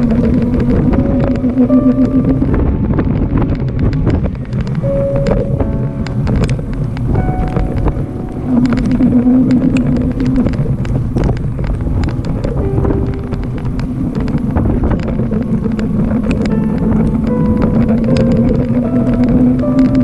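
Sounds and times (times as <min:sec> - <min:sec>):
bike road rumble: 0:00.0 - 0:20.0
humming tones: 0:00.0 - 0:20.0
small clicks: 0:00.0 - 0:20.0
wind buffeting microphone: 0:00.0 - 0:20.0.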